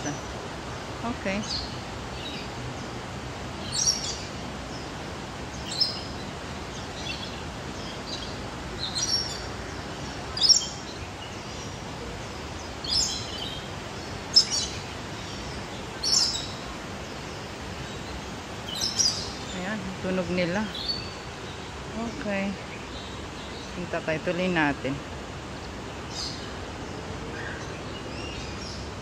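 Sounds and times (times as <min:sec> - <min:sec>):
steady background noise: 0:00.0 - 0:29.0.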